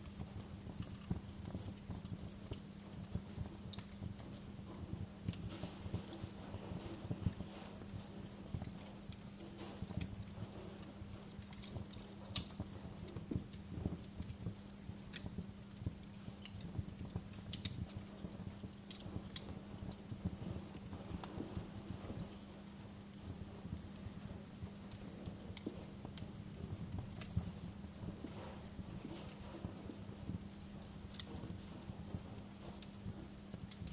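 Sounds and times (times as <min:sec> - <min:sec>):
low fire rumble: 0:00.0 - 0:33.9
steady low hum: 0:00.0 - 0:33.9
wood fire crackling and popping: 0:00.0 - 0:33.9.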